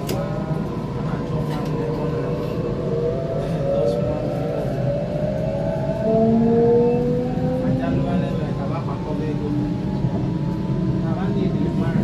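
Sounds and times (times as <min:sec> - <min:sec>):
wheels rumbling on track: 0:00.0 - 0:12.0.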